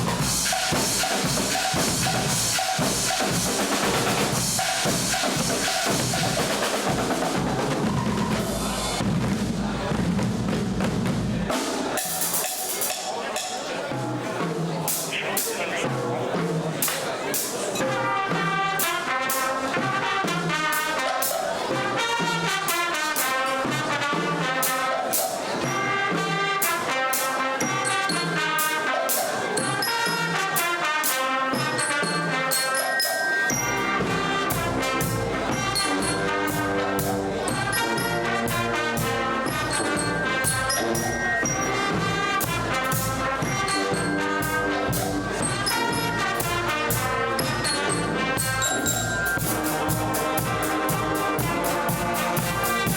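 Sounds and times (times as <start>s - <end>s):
brass band playing: 0.0s - 52.9s
drum and cymbal beats: 0.0s - 52.9s.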